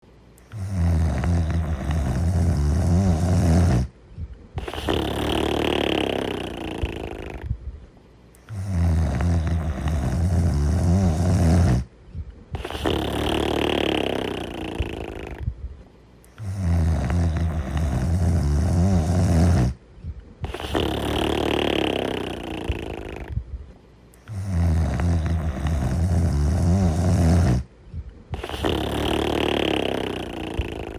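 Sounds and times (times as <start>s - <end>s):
person snoring: 0.5s - 3.9s, 4.6s - 7.5s, 8.4s - 11.9s, 12.5s - 15.5s, 16.3s - 19.8s, 20.4s - 23.4s, 24.2s - 27.7s, 28.3s - 30.9s.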